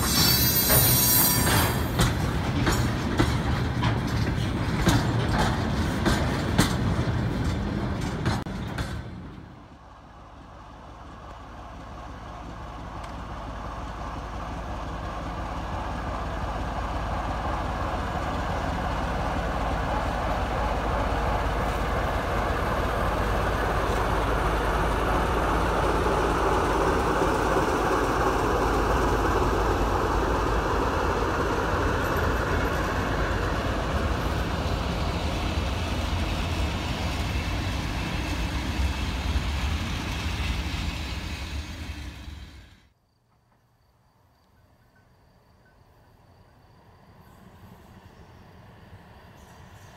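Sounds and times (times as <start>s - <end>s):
train rumbling past: 0.0s - 43.0s, 44.6s - 49.9s.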